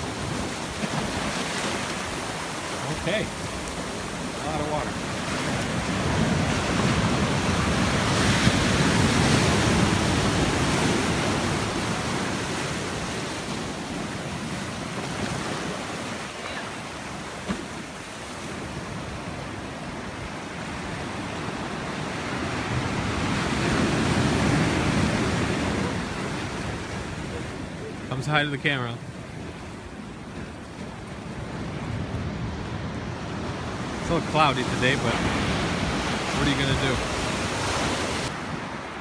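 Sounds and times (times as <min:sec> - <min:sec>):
ocean surf over rocks: 0:00.0 - 0:39.0.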